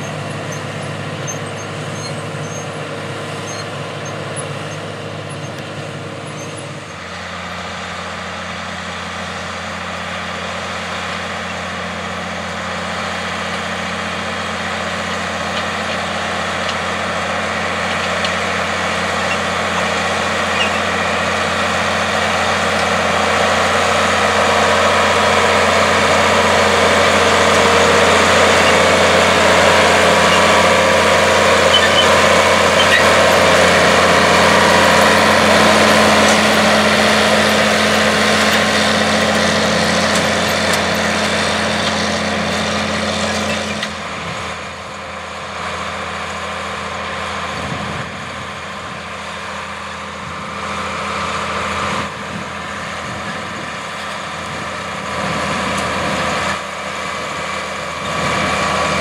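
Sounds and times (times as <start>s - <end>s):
diesel tractor engine under load: 0.0s - 59.0s
tractor engine running: 0.0s - 59.0s.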